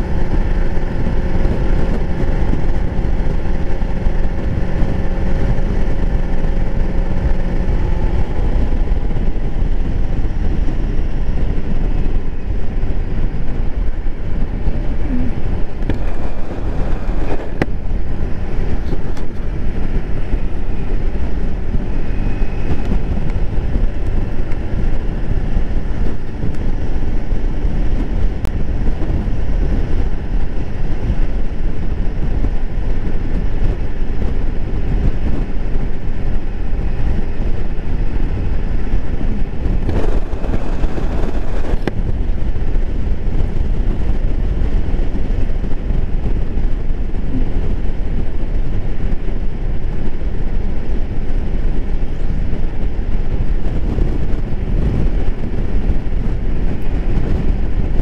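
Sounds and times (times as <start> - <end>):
motorbike engine running: 0.0 - 58.0
wind rumble on microphone: 0.0 - 58.0.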